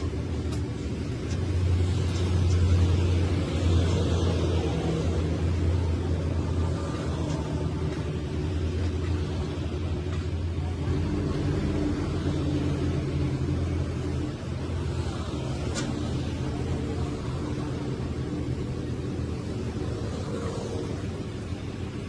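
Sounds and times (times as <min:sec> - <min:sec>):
large engine humming: 0:00.0 - 0:22.0.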